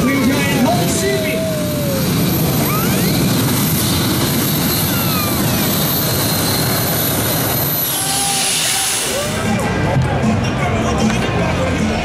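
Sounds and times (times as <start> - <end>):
tractor engines at full power: 0.0 - 12.0.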